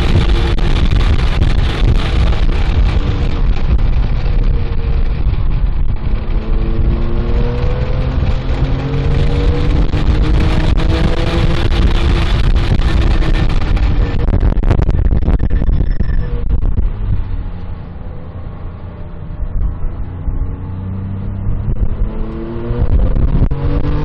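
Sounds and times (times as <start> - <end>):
car engine accelerating: 0.0 - 24.0
wind and road rumble: 0.0 - 24.0.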